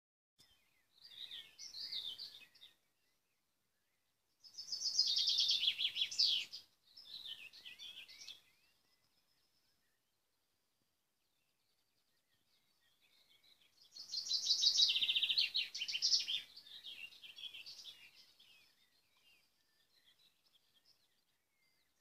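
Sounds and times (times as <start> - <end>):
songbird warbling and trilling: 0.4 - 2.8, 4.4 - 10.0, 11.4 - 22.0.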